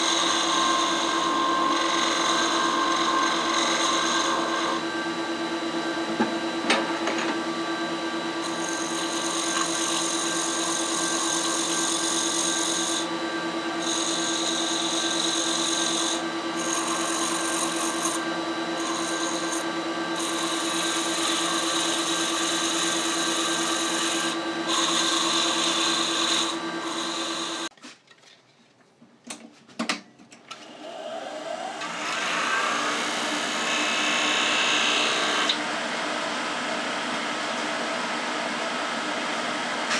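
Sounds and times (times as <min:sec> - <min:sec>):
wood lathe motor hum: 0:00.0 - 0:27.7, 0:30.6 - 0:36.3.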